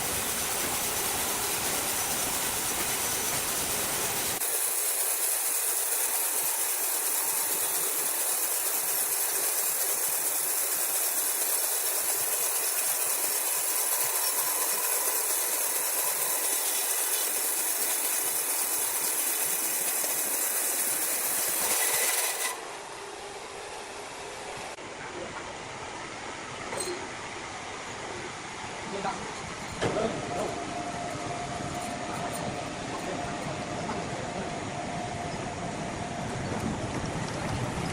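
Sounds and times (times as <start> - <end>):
sawmill machinery running: 0.0 - 24.9, 28.0 - 37.9.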